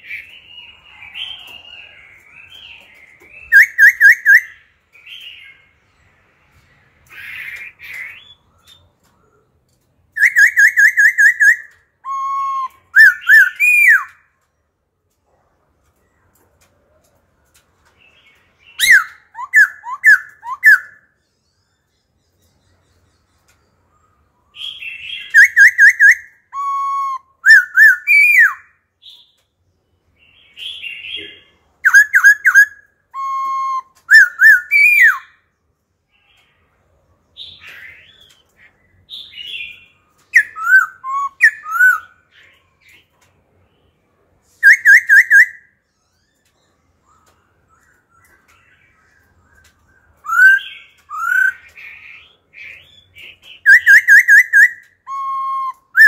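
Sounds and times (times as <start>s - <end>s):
bird whistled song: 0.0s - 9.5s, 10.1s - 14.3s, 18.1s - 29.4s, 30.2s - 35.5s, 37.4s - 43.1s, 44.6s - 56.0s.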